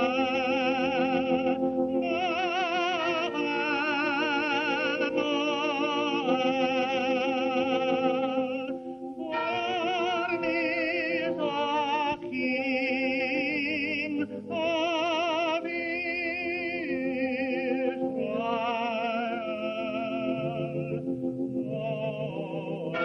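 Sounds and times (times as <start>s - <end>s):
slow melody with vibrato: 0.0s - 23.0s.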